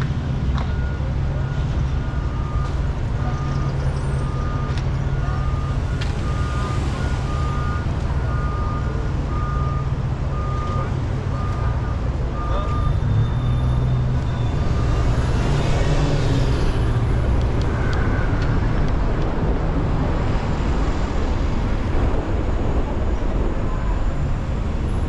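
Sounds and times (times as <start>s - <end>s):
car driving low rumble: 0.0s - 25.0s
traffic noise: 0.0s - 25.0s.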